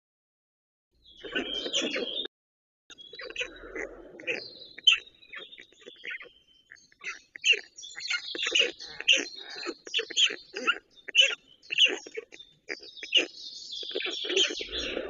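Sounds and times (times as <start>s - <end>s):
birds chirping: 1.0s - 2.3s, 2.9s - 15.0s.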